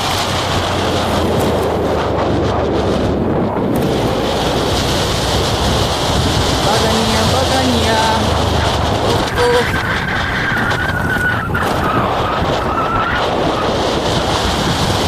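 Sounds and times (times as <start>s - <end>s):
low rumble: 0.0s - 15.0s
wind rushing over microphone: 0.0s - 15.0s.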